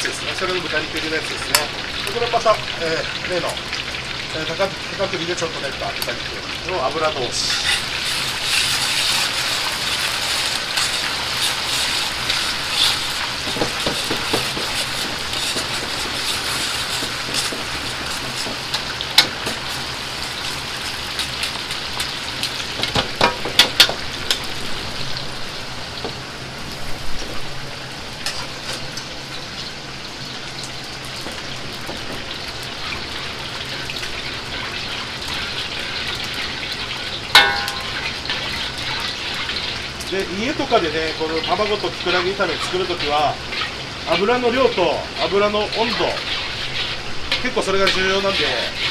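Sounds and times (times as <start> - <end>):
oil sizzling in a wok: 0.0 - 48.9.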